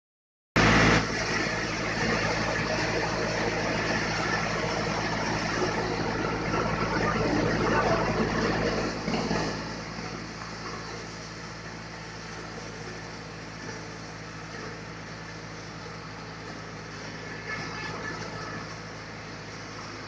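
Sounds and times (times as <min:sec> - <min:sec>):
mechanical rush of machinery: 0:00.6 - 0:19.0
engine hum: 0:00.6 - 0:20.0.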